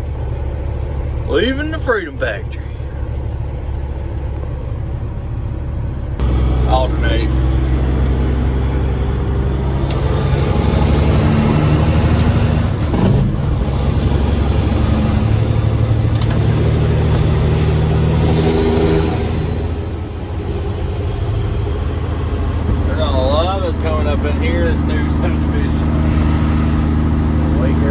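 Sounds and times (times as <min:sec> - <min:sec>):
high engine whine: 0:00.0 - 0:27.9
truck diesel engine under load: 0:00.0 - 0:27.9.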